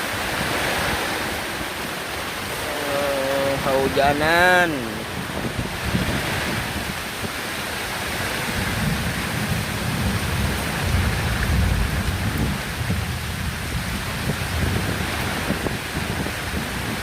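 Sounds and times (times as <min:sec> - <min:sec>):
gusting wind rumble: 0:00.0 - 0:17.0
heavy rain hissing: 0:00.0 - 0:17.0.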